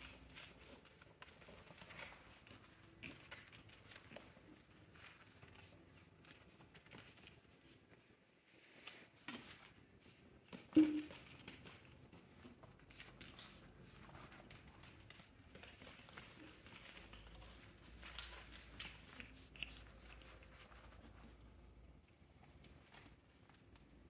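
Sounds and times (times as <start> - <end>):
puppies scuffling on bedding: 0.0 - 24.0.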